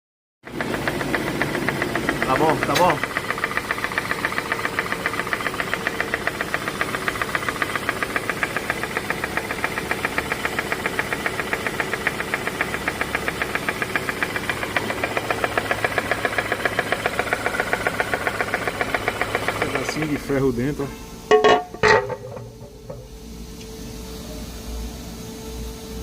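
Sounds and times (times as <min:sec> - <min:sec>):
rapid metallic knocking: 0:00.5 - 0:20.2, 0:21.3 - 0:23.1
car engine running: 0:00.5 - 0:23.6.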